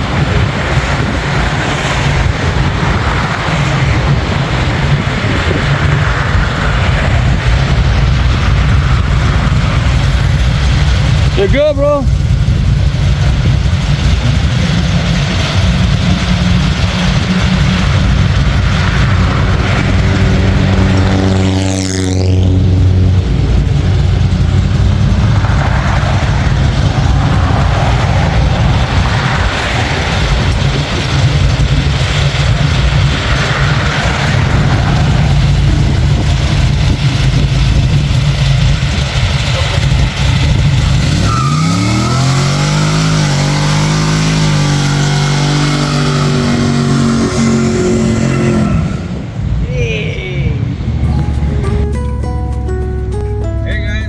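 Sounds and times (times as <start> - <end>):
engine revving high: 0.0 - 49.7
tyre noise: 0.0 - 52.0.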